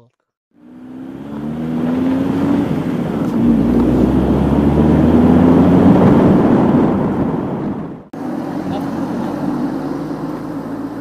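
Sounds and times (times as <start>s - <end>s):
car engine hum: 0.5s - 11.0s
road noise: 0.5s - 11.0s
rushing wind: 0.8s - 11.0s.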